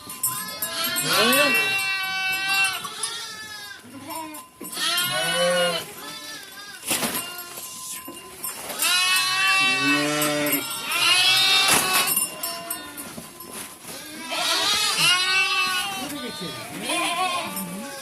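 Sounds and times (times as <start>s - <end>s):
sheep and goats bleating: 0.0s - 18.0s.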